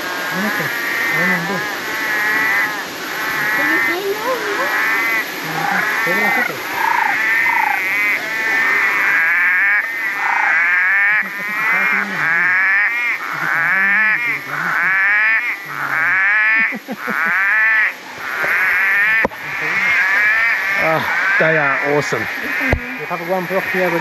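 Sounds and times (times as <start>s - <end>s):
deep frog croaks: 0.0s - 24.0s
frogs calling: 0.0s - 24.0s.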